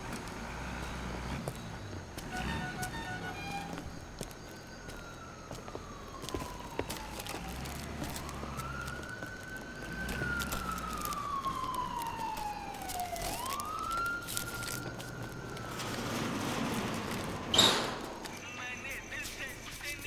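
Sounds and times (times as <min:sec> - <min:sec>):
siren wailing: 0:00.8 - 0:18.6.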